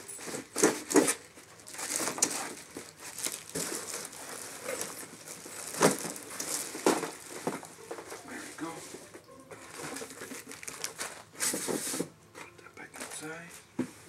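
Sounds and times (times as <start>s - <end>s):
plastic and cardboard rustling: 0.0s - 14.0s.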